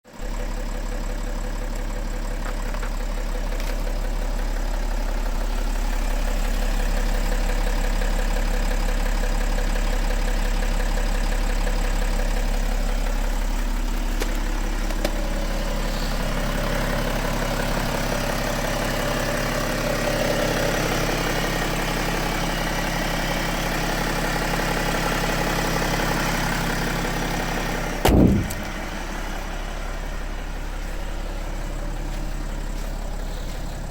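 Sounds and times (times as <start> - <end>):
diesel engine running with a knock: 0.1 - 33.9.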